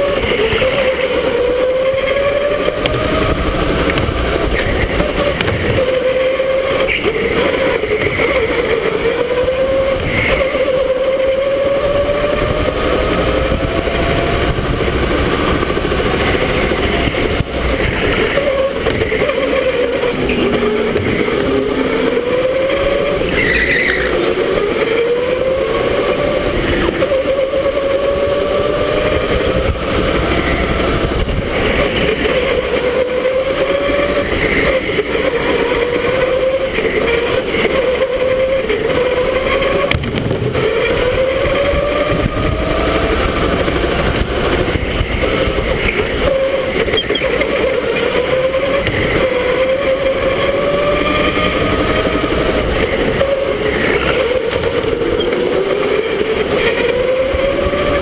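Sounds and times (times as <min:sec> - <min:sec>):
electric go-kart motor whining: 0:00.0 - 0:58.0
wind and tyre noise: 0:00.0 - 0:58.0.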